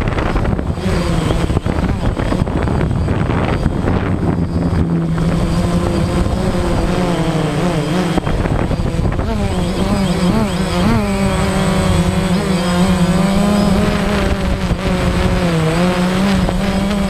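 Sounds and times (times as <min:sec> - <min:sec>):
drone propellers buzzing: 0:00.0 - 0:17.0
wind rumbling on microphone: 0:00.0 - 0:17.0.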